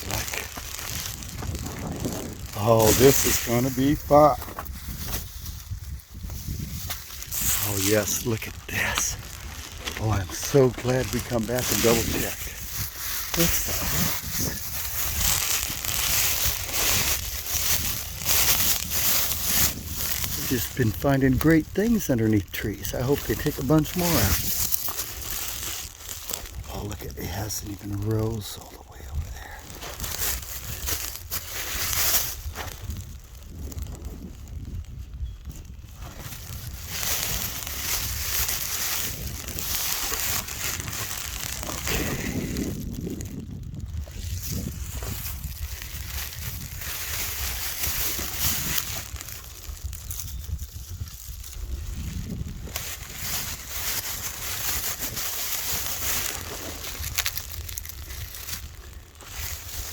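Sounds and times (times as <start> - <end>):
footsteps crunching through dry leaves: 0.0 - 59.9.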